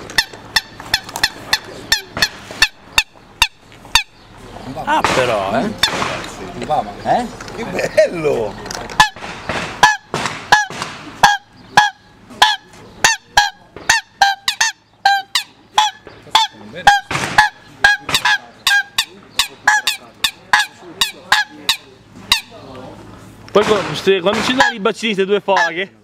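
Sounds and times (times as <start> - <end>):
waterfowl call honking: 0.0 - 7.0, 8.5 - 22.6, 24.4 - 25.9.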